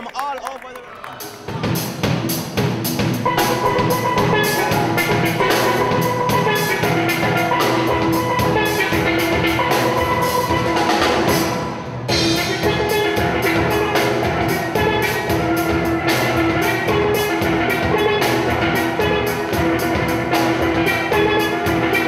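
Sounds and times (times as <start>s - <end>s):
steady drum beat: 1.2s - 22.0s
steel pans playing melody: 2.3s - 22.0s.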